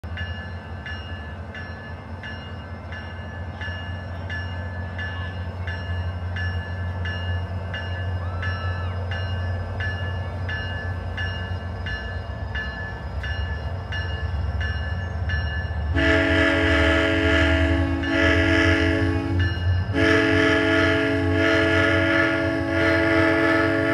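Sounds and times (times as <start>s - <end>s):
train warning bell ringing: 0.0s - 23.9s.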